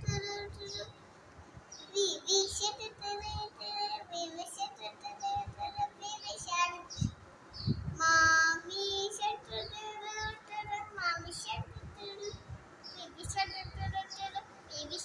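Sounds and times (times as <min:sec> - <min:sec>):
girl singing: 0:00.0 - 0:01.0, 0:01.7 - 0:15.0.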